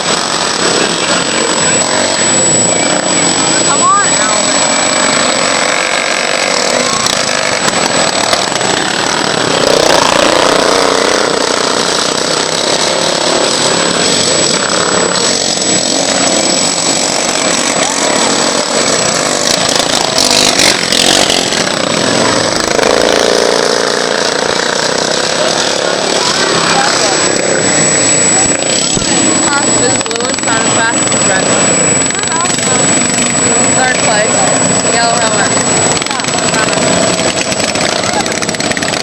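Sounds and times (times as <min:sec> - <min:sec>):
lawn mower engines racing: 0:00.0 - 0:39.0.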